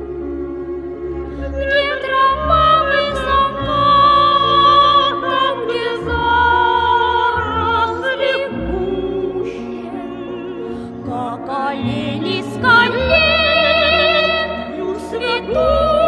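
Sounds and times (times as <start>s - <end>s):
sustained accompaniment: 0.0s - 16.0s.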